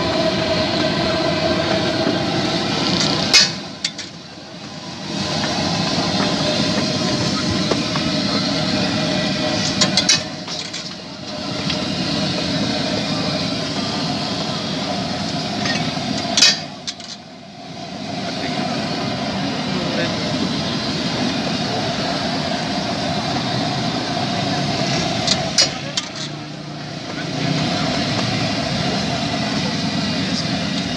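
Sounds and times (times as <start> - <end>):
people talking: 0.0 - 17.2, 18.0 - 30.9
traffic: 0.0 - 30.9.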